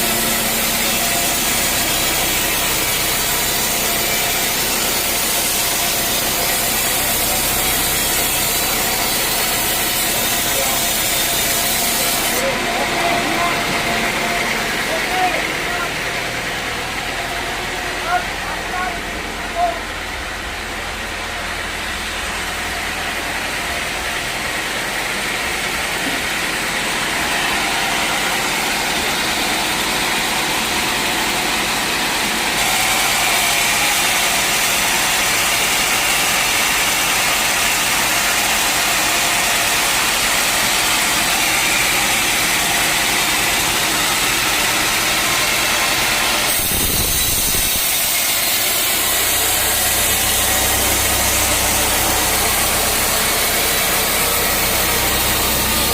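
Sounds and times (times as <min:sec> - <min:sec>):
sawmill saw cutting log: 0:00.0 - 0:55.9.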